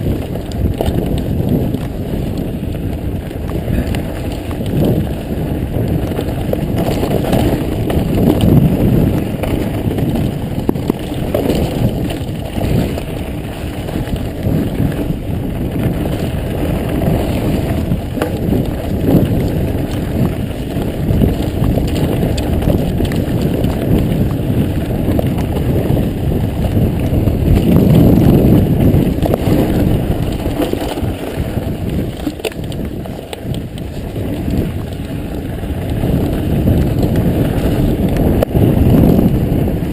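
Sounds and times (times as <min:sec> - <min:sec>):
bike clicks and rattles: 0:00.0 - 0:39.9
tyres rumbling on dirt: 0:00.0 - 0:39.9
wind on microphone: 0:00.0 - 0:39.9.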